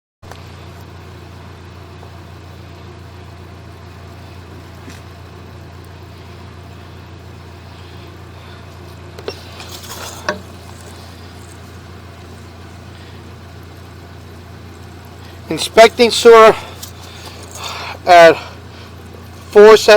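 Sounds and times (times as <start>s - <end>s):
low machine hum: 0.2s - 19.9s.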